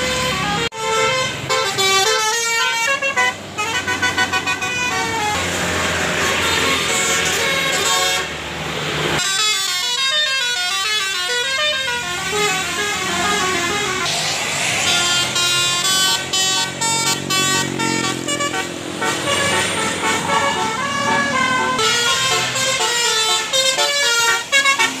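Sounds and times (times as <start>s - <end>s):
air horn playing fast melody: 0.0s - 8.4s, 9.2s - 25.0s
bus road and engine noise: 0.0s - 25.0s.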